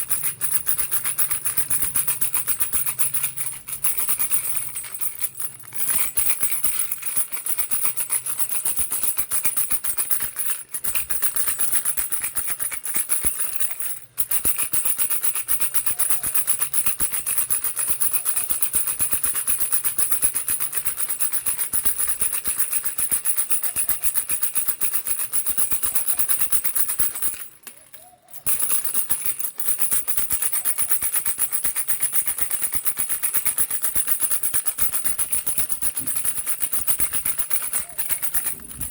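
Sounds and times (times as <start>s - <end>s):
toy rattle shaken: 0.0s - 38.9s.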